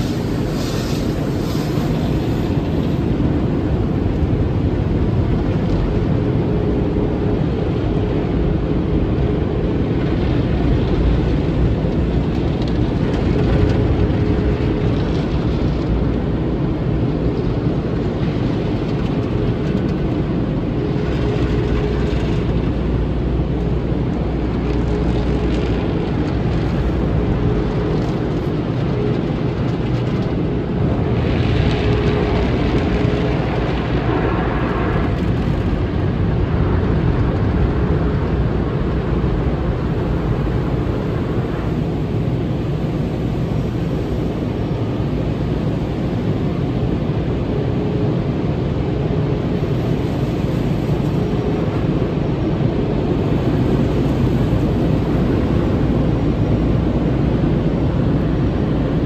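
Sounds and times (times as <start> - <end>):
car wash water spray and brushes: 0.0 - 5.6, 8.8 - 59.0
faint machinery hum: 0.0 - 59.0.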